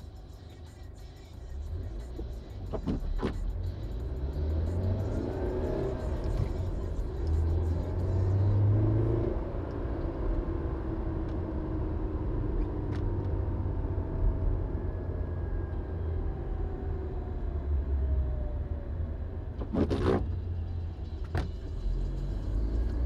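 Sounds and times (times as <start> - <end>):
car engine: 0.0 - 23.0
road rumble: 0.0 - 23.0.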